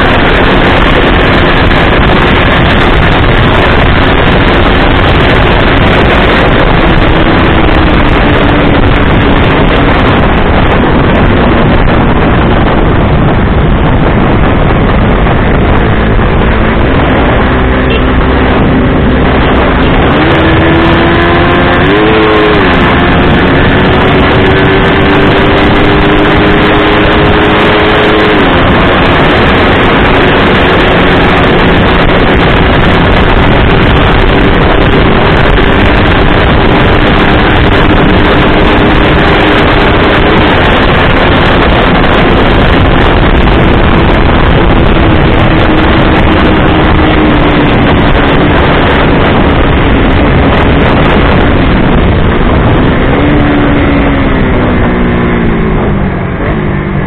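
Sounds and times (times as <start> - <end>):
heavy wind rush: 0.0 - 57.0
motorcycle engine drone: 0.0 - 57.0.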